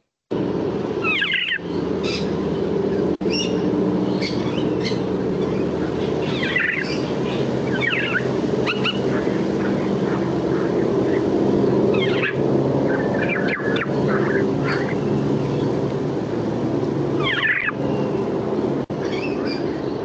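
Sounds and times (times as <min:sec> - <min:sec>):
low background rumble: 0:00.3 - 0:20.0.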